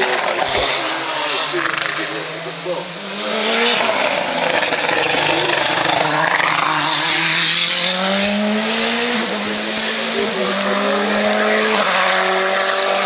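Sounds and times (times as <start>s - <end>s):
race car passing at full throttle: 0.0s - 13.0s.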